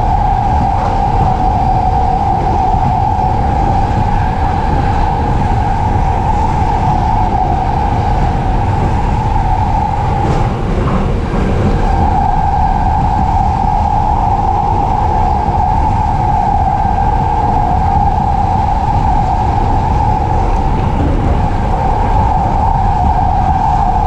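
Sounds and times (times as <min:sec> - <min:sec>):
mid-pitched drone: 0:00.0 - 0:24.0
train running rumble: 0:00.0 - 0:24.0.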